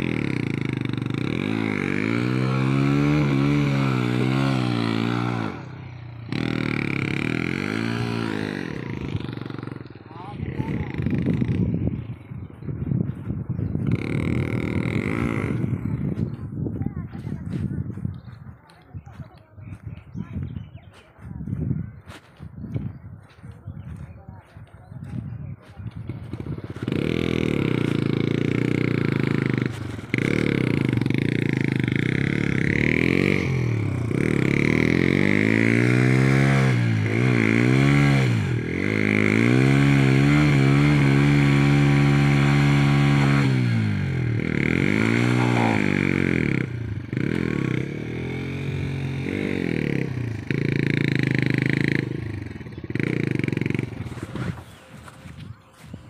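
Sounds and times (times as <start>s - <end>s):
motorcycle engine revving: 0.0s - 20.8s, 23.8s - 56.0s.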